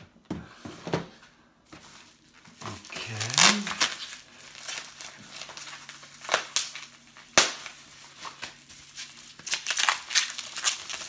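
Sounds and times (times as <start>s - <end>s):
packaging crackling and crinkling: 1.7s - 11.0s.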